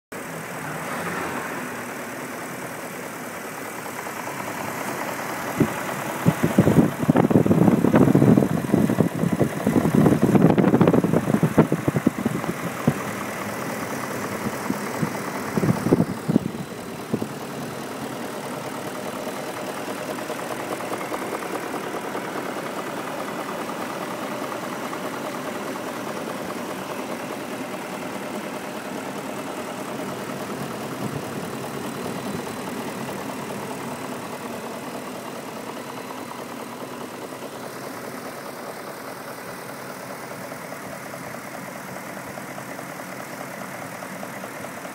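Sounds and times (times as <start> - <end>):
car engine idling: 0.1 - 44.9.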